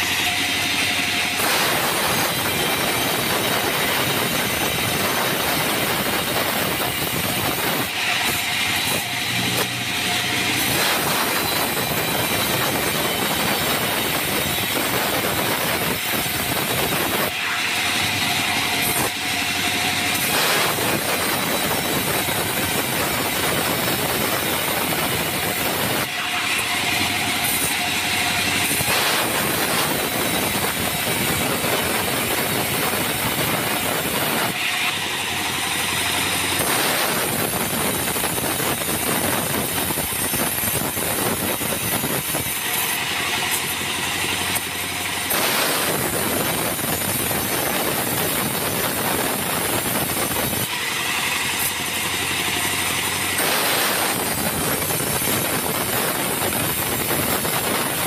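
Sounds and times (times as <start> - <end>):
bandsaw cutting log: 0.0 - 58.0.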